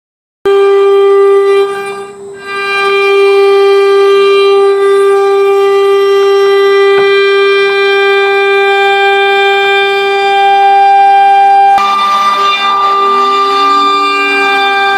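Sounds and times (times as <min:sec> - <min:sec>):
router spindle high whine: 0:00.5 - 0:14.9.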